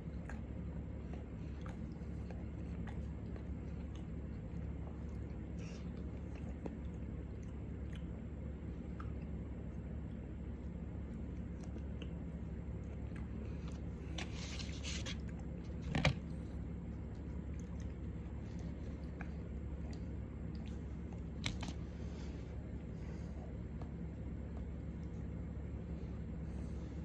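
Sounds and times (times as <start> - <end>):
low hum: 0.0 - 27.0
person chewing food: 0.0 - 27.0.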